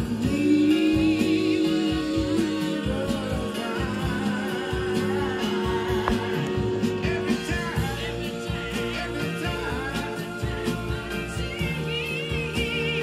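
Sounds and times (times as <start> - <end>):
song playing from record: 0.0 - 13.0.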